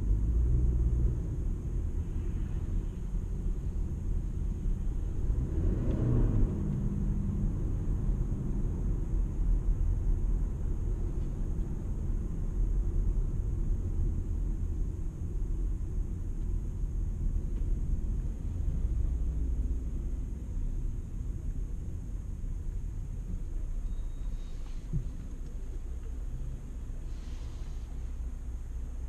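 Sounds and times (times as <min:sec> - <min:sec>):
car road and drivetrain rumble: 0:00.0 - 0:29.0.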